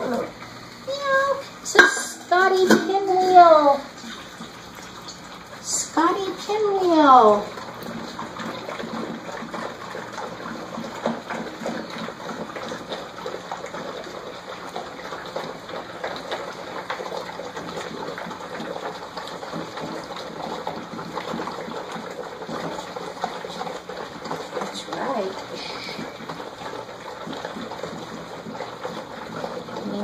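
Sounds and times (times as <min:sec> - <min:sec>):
puppies lapping milk: 0:00.0 - 0:30.0.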